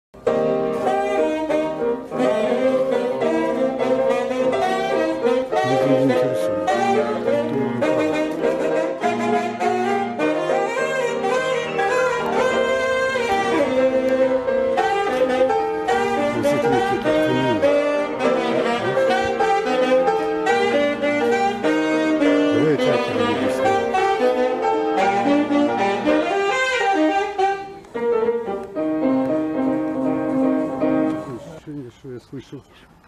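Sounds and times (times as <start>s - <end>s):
instrumental background music: 0.2s - 31.4s.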